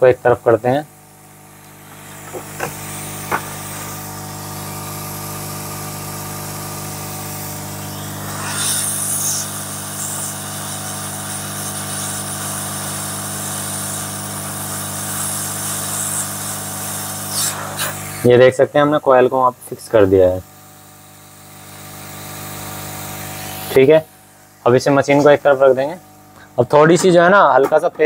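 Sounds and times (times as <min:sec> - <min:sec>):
blower motor humming: 0:00.0 - 0:28.0
hot air hissing: 0:00.2 - 0:26.8.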